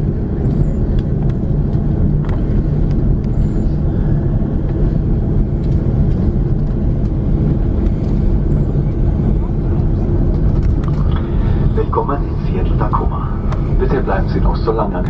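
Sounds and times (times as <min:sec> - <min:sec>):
aircraft engines at low power: 0:00.0 - 0:15.0.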